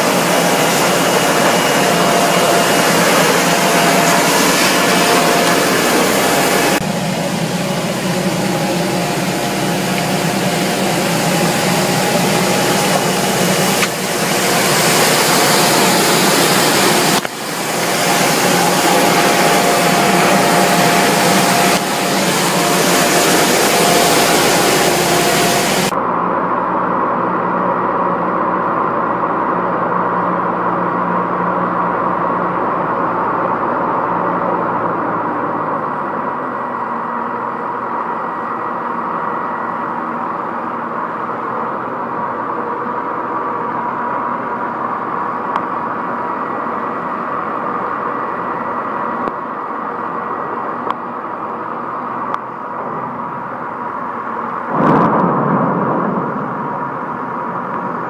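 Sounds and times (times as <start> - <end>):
harvester machine running: 0.0 - 58.0.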